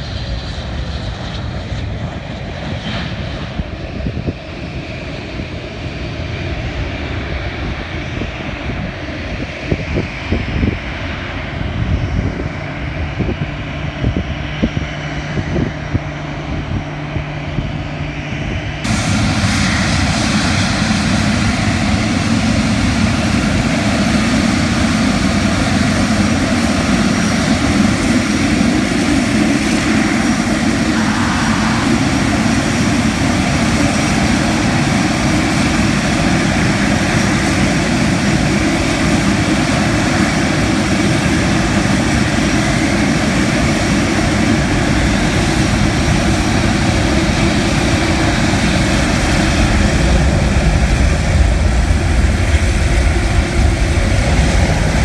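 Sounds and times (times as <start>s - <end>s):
faint steady engine whine: 0.0s - 55.0s
jet engines at taxi power: 0.0s - 55.0s.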